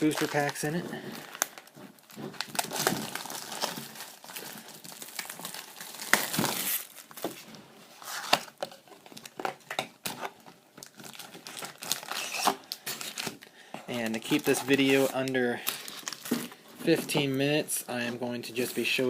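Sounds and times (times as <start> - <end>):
plastic packaging crinkling: 0.0 - 17.6.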